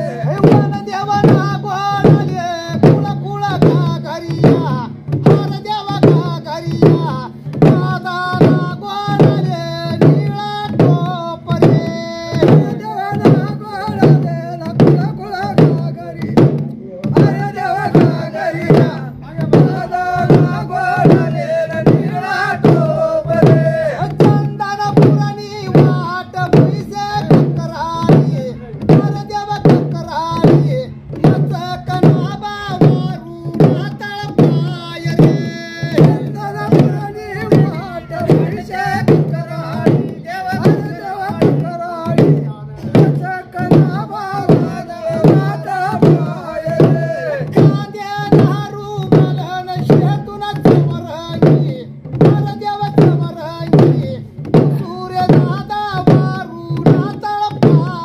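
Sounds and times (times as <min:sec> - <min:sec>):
drums beaten with sticks: 0:00.0 - 0:58.0
man singing: 0:00.0 - 0:58.0.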